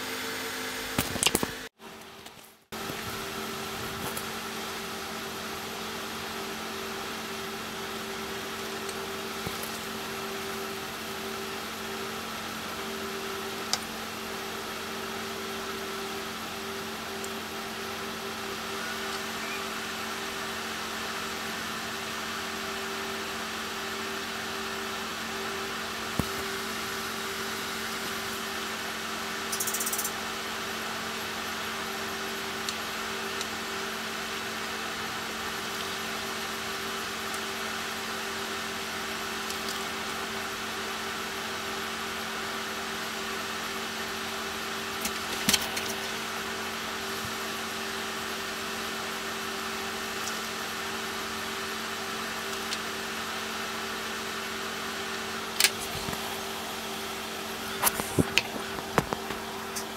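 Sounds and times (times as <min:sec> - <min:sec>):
mechanical hum and hiss: 0:00.0 - 0:59.9.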